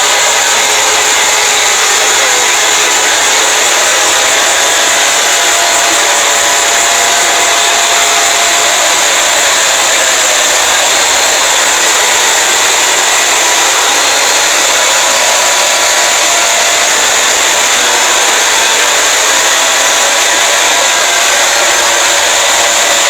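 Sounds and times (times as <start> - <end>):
loud harsh hiss: 0.0 - 23.0.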